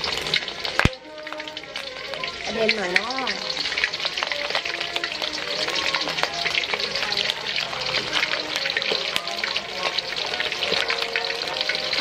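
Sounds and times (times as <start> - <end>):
fish deep-frying in oil: 0.0 - 12.0
oil spattering and popping: 0.0 - 12.0.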